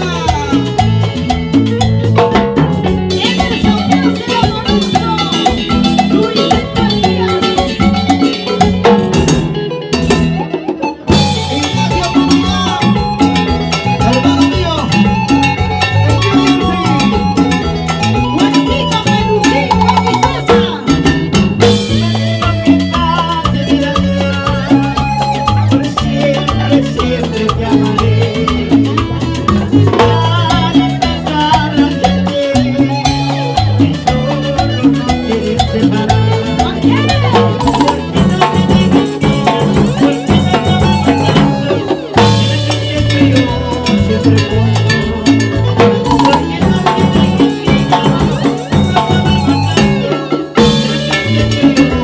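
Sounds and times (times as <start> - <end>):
salsa band playing: 0.0 - 52.0.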